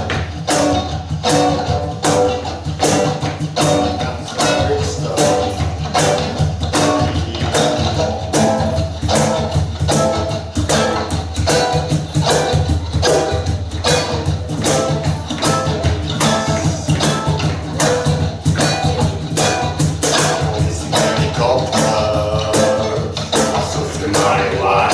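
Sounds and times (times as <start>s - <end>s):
bass line: 0.0s - 24.9s
drum beat: 0.0s - 24.9s.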